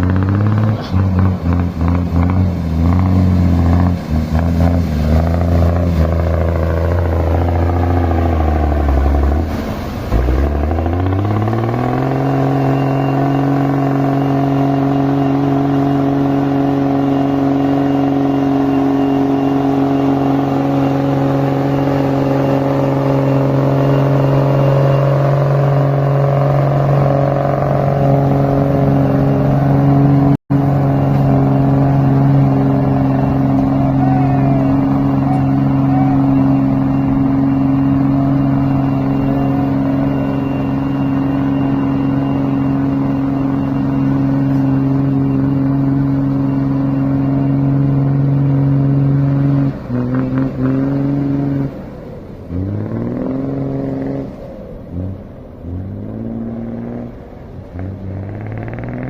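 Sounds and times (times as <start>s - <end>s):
truck engine pulling with clatter: 0.0s - 59.0s.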